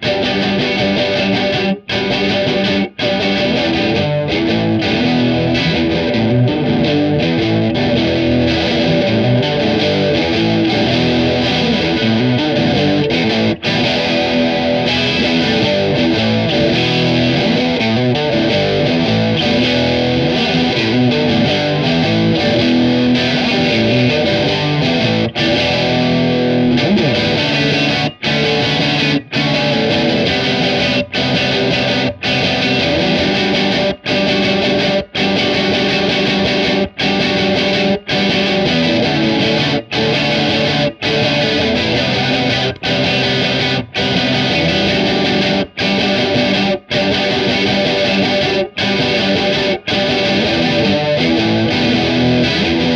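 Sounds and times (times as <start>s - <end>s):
distorted electric guitar riff: 0.0s - 52.9s.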